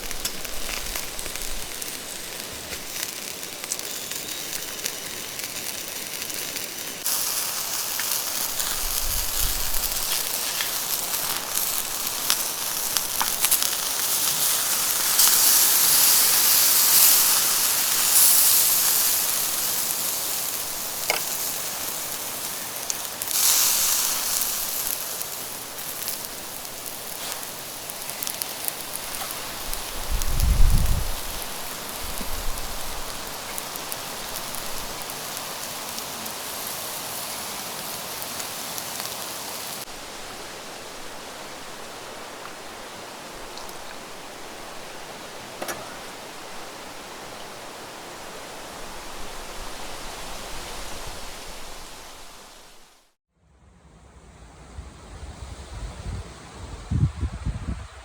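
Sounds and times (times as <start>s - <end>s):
bonfire crackling: 0.0s - 53.2s
rain falling: 0.0s - 53.2s.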